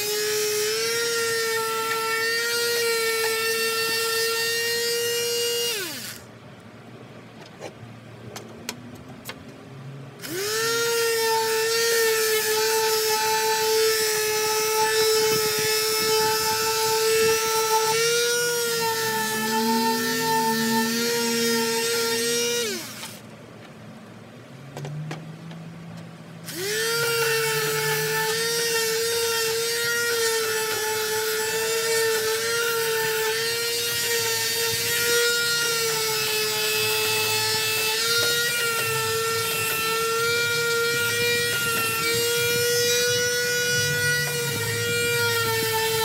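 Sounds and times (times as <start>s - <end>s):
electric sander motor whining: 0.0s - 6.3s, 10.2s - 23.2s, 26.4s - 46.0s.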